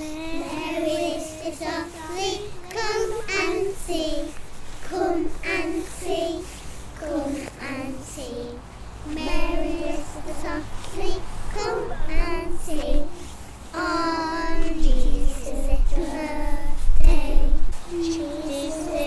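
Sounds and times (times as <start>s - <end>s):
young children singing: 0.0s - 19.0s.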